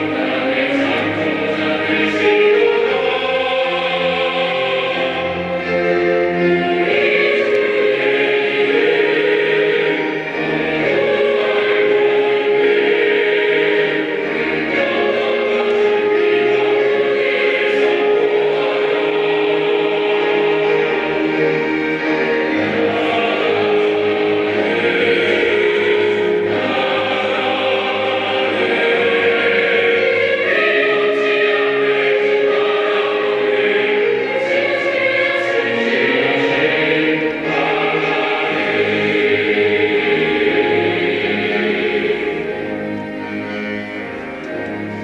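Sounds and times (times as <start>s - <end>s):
instrumental accompaniment: 0.0s - 45.0s
mixed choir singing: 0.0s - 45.0s.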